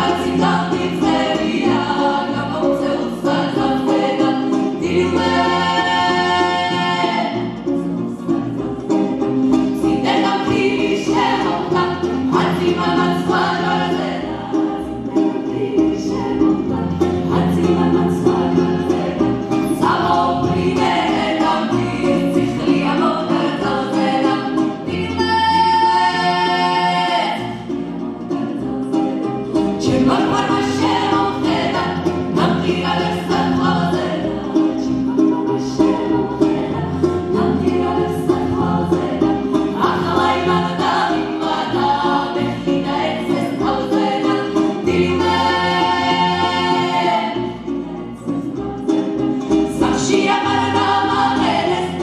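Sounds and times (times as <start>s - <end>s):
strummed lute: 0.0s - 52.0s
women singing in harmony: 0.0s - 52.0s.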